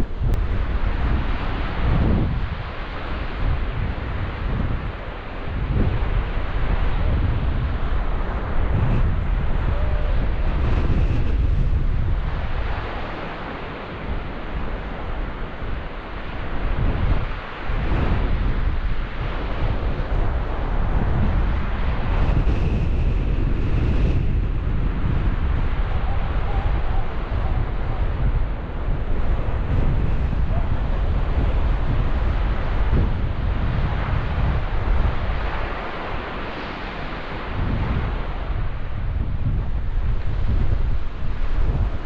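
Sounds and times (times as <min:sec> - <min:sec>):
surf breaking on shore: 0:00.0 - 0:42.0
wind buffeting microphone: 0:00.0 - 0:42.0.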